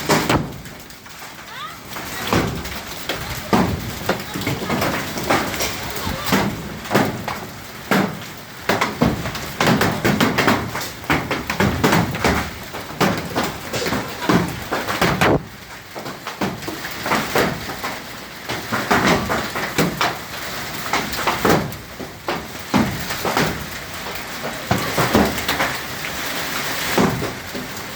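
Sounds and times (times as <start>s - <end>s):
hailstones striking hard surfaces: 0.0s - 27.9s
hiss of falling ice and rain: 0.0s - 27.9s.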